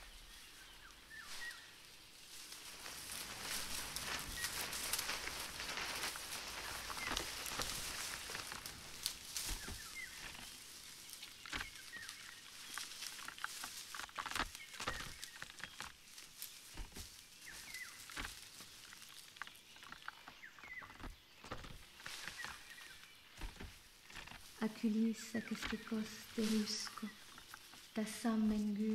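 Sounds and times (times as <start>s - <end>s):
leaves rustling: 0.0s - 28.9s
twigs and branches cracking: 0.0s - 28.9s.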